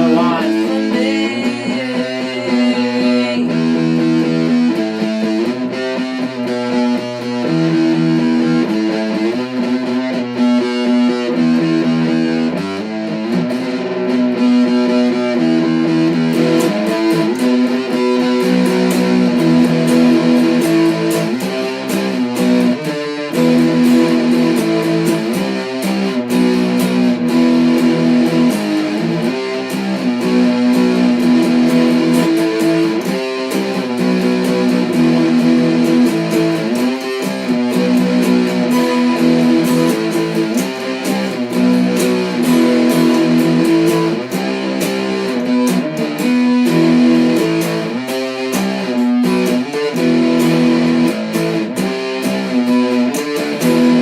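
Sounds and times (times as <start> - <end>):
guitar chords: 0.0 - 54.0.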